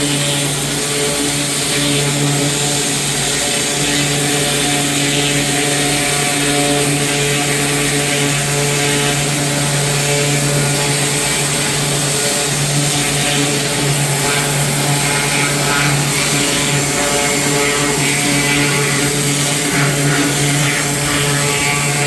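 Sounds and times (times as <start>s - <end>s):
small engine running: 0.0s - 22.0s
steady hiss: 0.0s - 22.0s.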